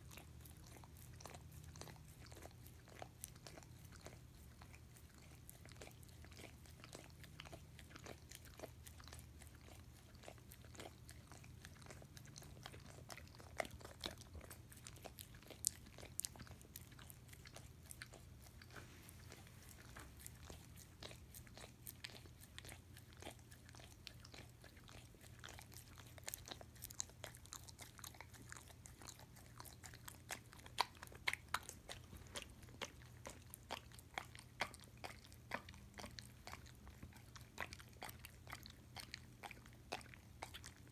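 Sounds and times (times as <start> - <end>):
dog licking a spoon: 0.0 - 40.9.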